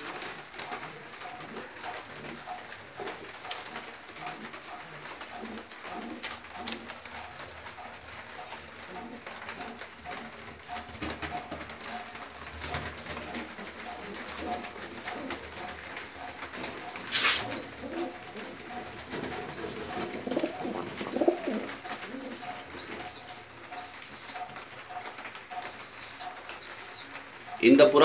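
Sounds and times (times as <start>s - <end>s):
pigeons cooing: 0.0s - 27.8s.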